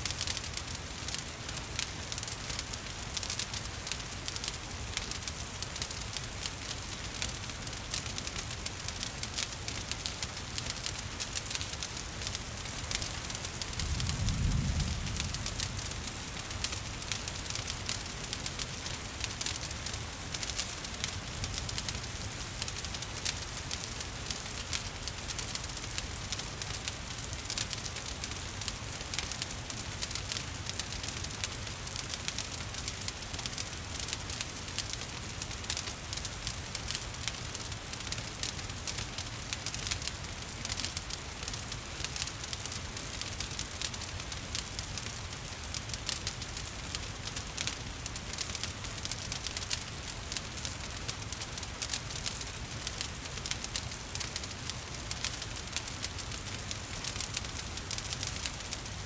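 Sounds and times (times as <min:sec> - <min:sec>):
rain: 0:00.0 - 0:59.0
wood fire crackling: 0:00.0 - 0:59.0.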